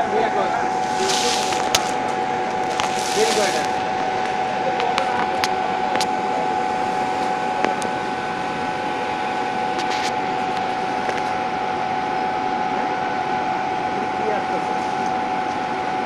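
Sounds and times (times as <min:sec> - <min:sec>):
laser cutter whirring and whining: 0:00.0 - 0:16.0.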